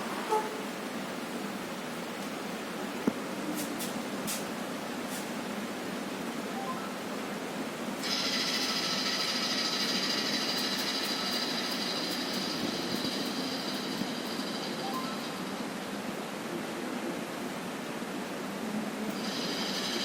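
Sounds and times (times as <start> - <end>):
constant hiss: 0.0 - 20.0.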